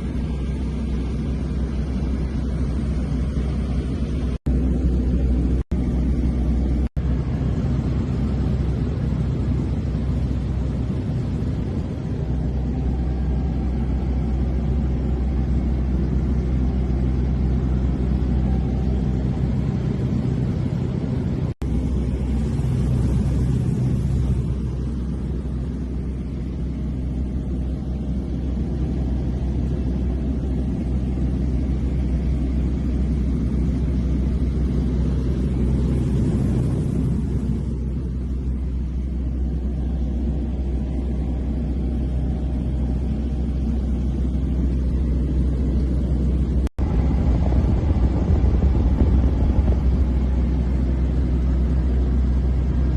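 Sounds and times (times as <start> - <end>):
small airplane engine droning: 0.0 - 52.9.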